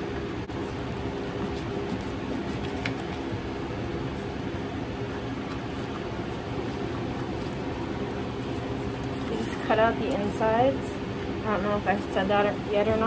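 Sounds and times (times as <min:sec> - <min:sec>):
refrigeration equipment humming: 0:00.0 - 0:13.0.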